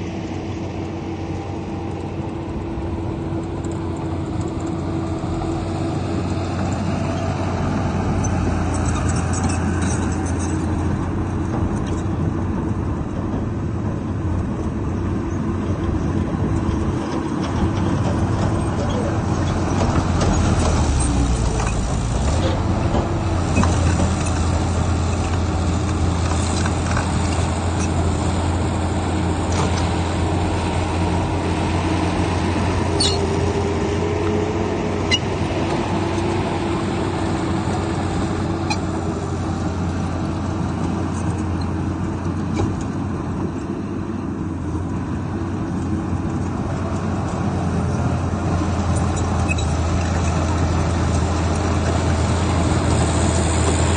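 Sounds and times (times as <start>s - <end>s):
heavy diesel machinery droning: 0.0s - 53.9s.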